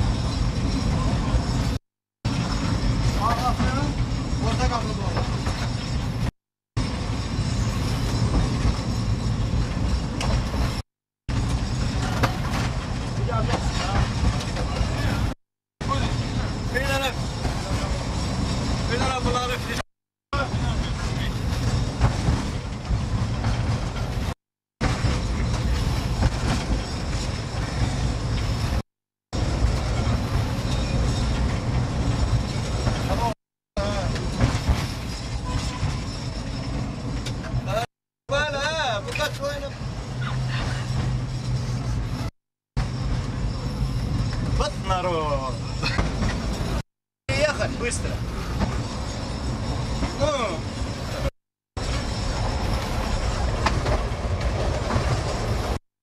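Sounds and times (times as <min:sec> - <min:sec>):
tram clanks: 0:00.0 - 0:19.8, 0:20.4 - 0:28.8, 0:29.4 - 0:55.8
tram wheels rumbling and rattling: 0:00.0 - 0:28.8, 0:29.4 - 0:55.8.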